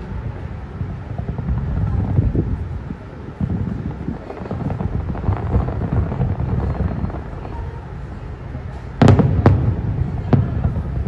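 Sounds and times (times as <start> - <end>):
distant fireworks booming: 0.0 - 11.0.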